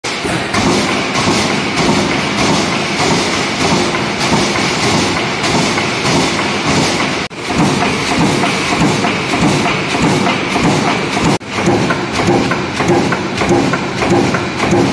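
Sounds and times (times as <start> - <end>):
punching press clattering: 0.1 - 14.9.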